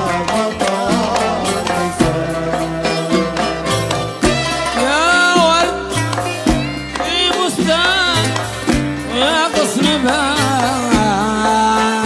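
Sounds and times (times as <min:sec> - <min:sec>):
continuous melody: 0:00.0 - 0:12.0
hand drums: 0:00.0 - 0:12.0.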